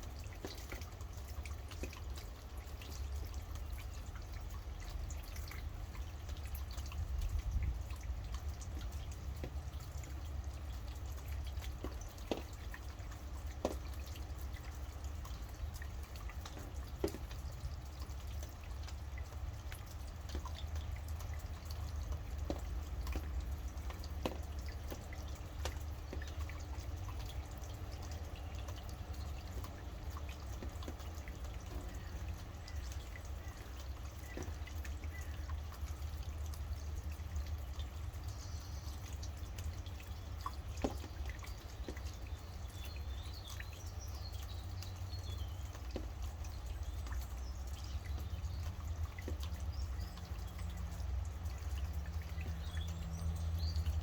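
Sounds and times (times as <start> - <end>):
raindrops pattering: 0.0 - 54.0.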